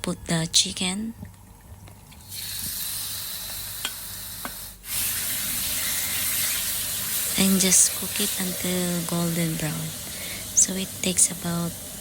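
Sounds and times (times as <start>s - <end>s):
chicken sizzling in hot oil: 2.2s - 12.0s.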